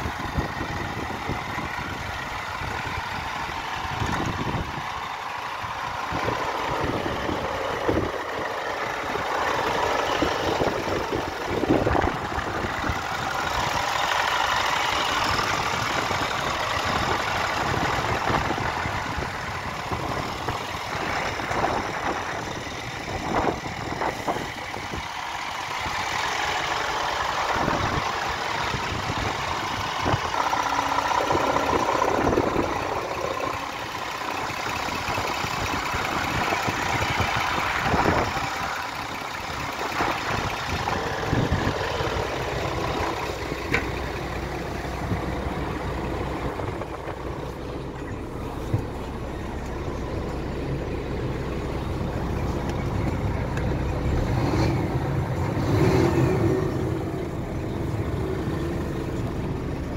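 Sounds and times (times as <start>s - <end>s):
diesel truck engine idling: 0.0s - 59.9s
engine knocks: 0.0s - 59.9s.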